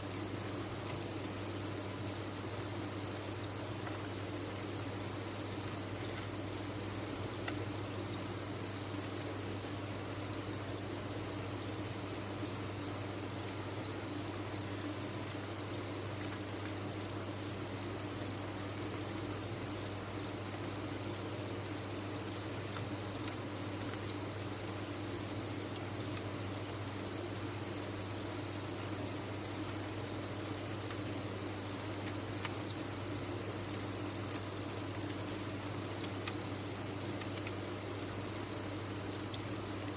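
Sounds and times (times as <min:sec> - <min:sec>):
crickets chirping in chorus: 0:00.0 - 0:39.9.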